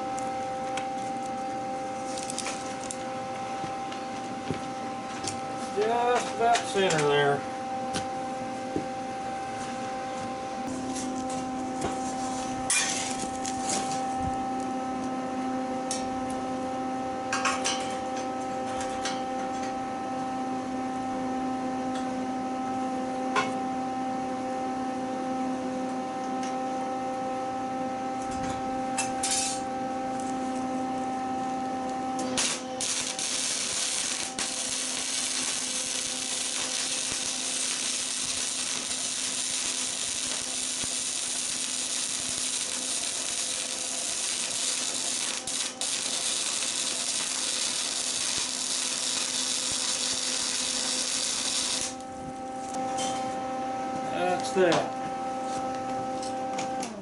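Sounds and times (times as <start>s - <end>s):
welder humming: 0.0s - 57.0s.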